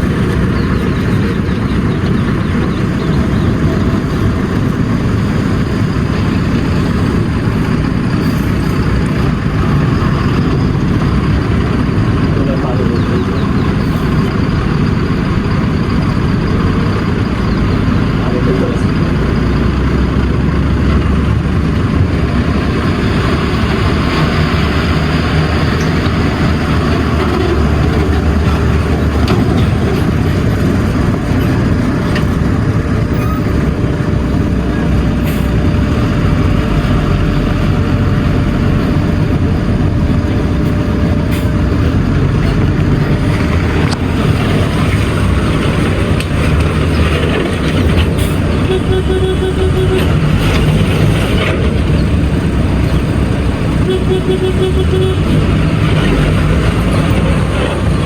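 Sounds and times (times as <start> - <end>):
heavy diesel machinery running: 0.0 - 58.0.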